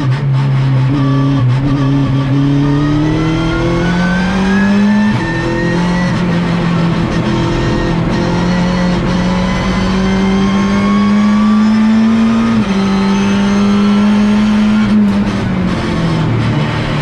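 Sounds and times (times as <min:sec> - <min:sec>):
race car engine from inside cabin: 0:00.0 - 0:17.0.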